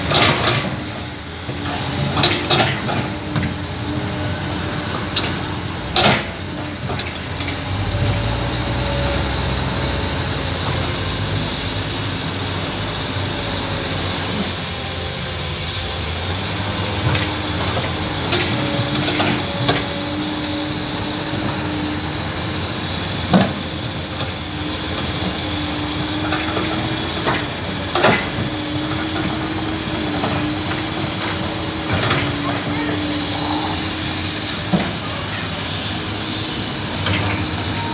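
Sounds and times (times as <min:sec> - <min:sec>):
heavy vehicle engine rumbling: 0:00.0 - 0:37.9.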